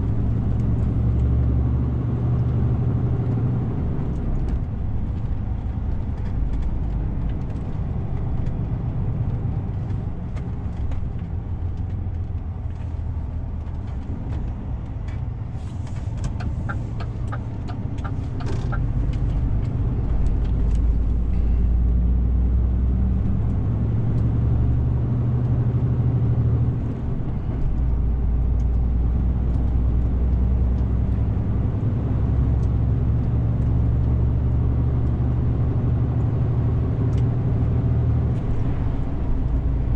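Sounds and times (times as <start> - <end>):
truck engine drone from cab: 0.0 - 39.9.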